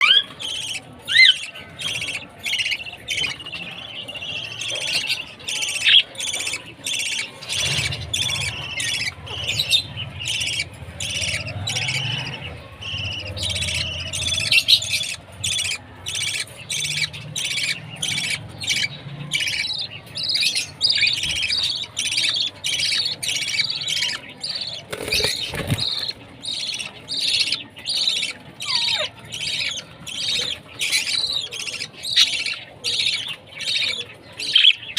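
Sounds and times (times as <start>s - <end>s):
budgerigar chirping: 0.0s - 34.9s.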